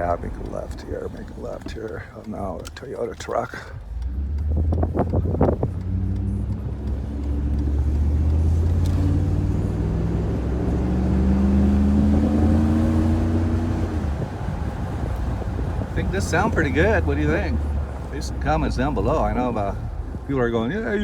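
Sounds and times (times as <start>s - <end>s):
car engine deep rumble: 0.0s - 21.0s.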